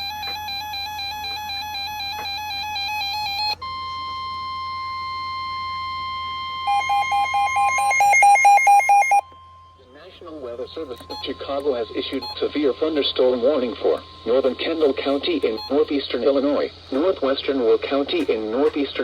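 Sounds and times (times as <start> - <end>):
steady radio warning tone: 0.0 - 3.6, 6.7 - 9.2, 9.8 - 19.0
pulsing beep alarm: 0.0 - 10.1, 11.0 - 16.4
warbling electronic alarm: 0.0 - 17.8.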